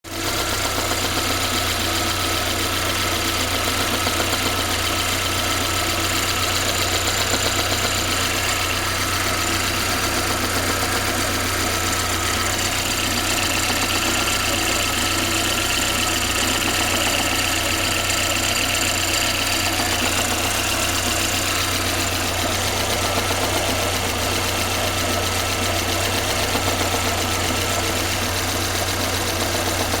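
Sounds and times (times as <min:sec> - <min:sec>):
engine knocking: 0:00.0 - 0:30.0
car engine idling: 0:00.1 - 0:30.0.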